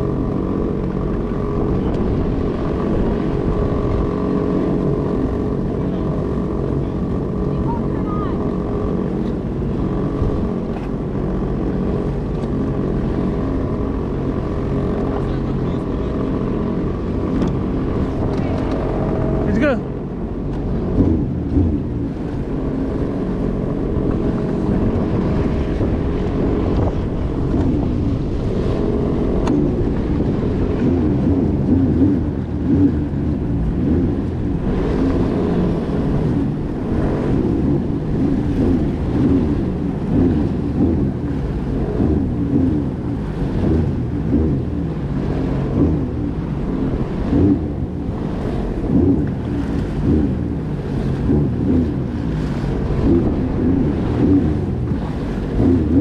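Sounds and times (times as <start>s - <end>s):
jet ski engine running: 0.0s - 56.0s
wind buffeting microphone: 0.0s - 56.0s.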